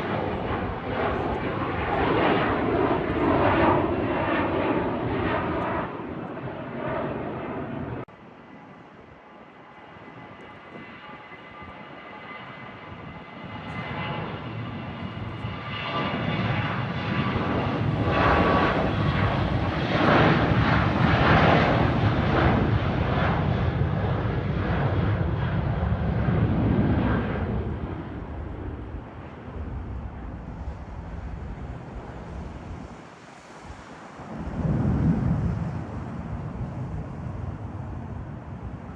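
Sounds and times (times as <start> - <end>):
airliner engines roaring: 0.0 - 38.9.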